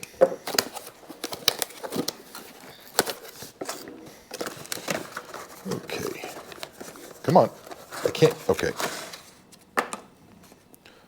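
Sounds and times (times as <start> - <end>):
cardboard scraping and rustling: 0.4 - 9.6.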